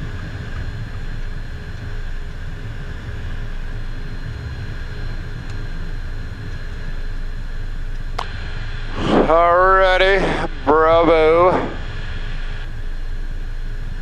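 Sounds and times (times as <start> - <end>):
jet engines low rumble: 0.0 - 14.0.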